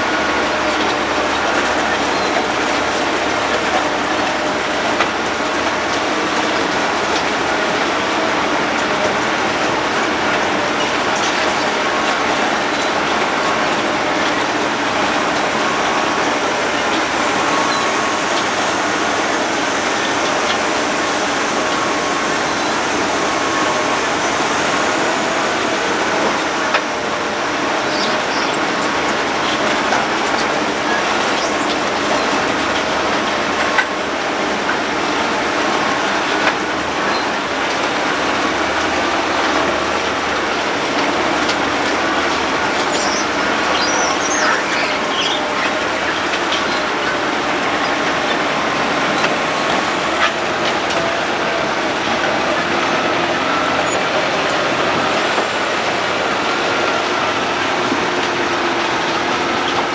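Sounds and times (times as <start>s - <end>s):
machine engine running: 0.0s - 59.9s
road planer grinding: 0.0s - 59.9s.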